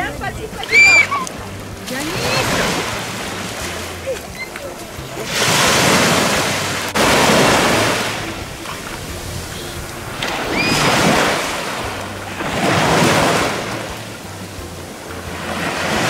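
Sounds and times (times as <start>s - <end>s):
small waves breaking on sand: 0.0s - 16.0s.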